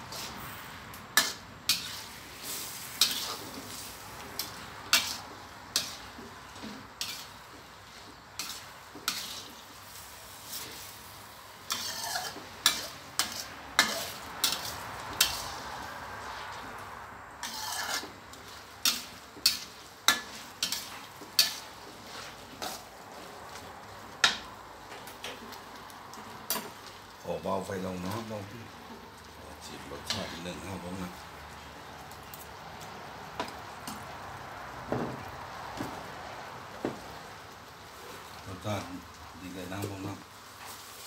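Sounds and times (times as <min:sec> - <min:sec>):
food sizzling: 0:00.0 - 0:41.0.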